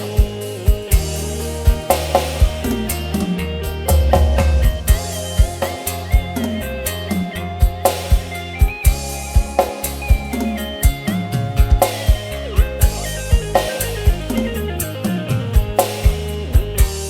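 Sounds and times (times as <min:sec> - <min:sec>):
heavy booming bass: 0:00.0 - 0:17.0
keyboard melody: 0:00.0 - 0:17.0.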